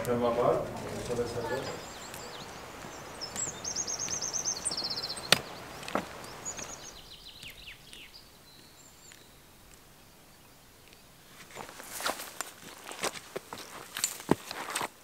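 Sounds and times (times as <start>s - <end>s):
small songbirds singing: 0.0s - 12.5s
steady outdoor hiss: 0.0s - 15.0s.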